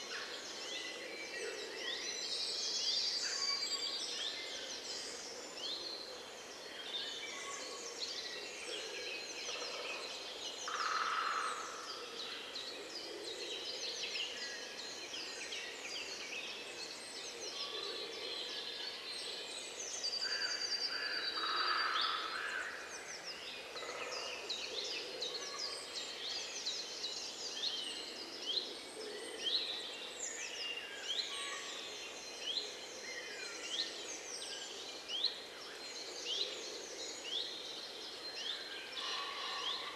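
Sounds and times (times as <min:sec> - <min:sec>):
many birds chirping: 0:00.0 - 0:39.9.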